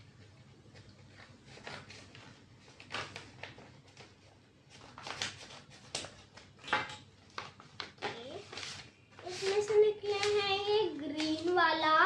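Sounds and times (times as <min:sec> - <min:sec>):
low room hum: 0:00.0 - 0:12.0
paper rustling and crinkling: 0:00.0 - 0:12.0.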